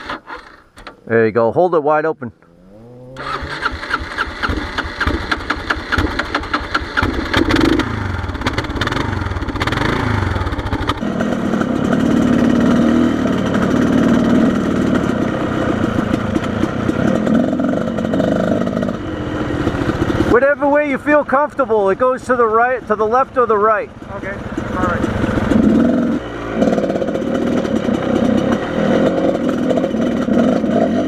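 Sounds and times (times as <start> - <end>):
motorcycle engine cranking and running: 2.4 - 31.0.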